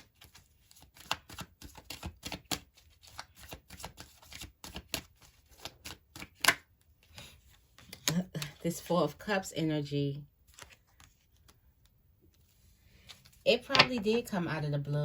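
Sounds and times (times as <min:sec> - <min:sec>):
cards being shuffled: 0:00.0 - 0:08.9, 0:10.4 - 0:14.1.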